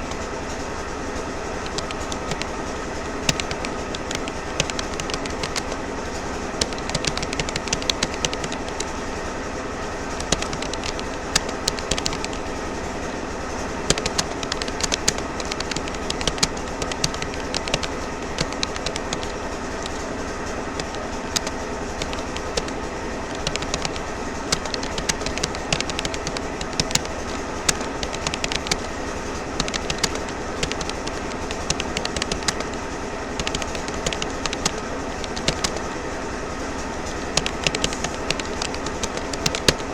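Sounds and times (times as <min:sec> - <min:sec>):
background hum: 0:00.0 - 0:39.9
keyboard keys clicking: 0:01.6 - 0:09.1, 0:10.2 - 0:12.6, 0:13.8 - 0:35.9, 0:37.2 - 0:39.9.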